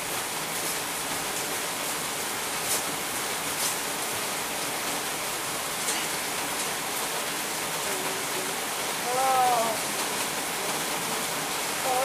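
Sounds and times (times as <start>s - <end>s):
rain spatters: 0.0s - 12.0s
steady rain falling: 0.0s - 12.0s.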